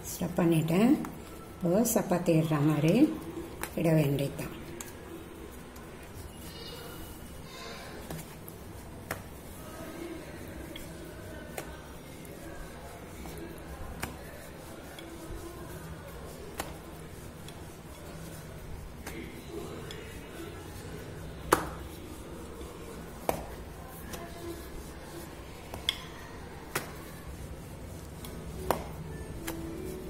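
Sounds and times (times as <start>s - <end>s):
rolling pin rubbing dough: 0.1s - 30.0s.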